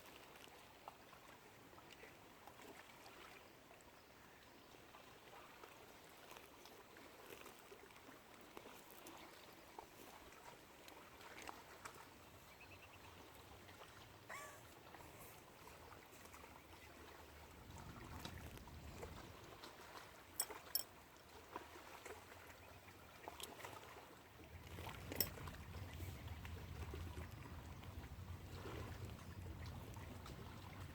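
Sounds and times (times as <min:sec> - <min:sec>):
water lapping: 0:04.2 - 0:30.9.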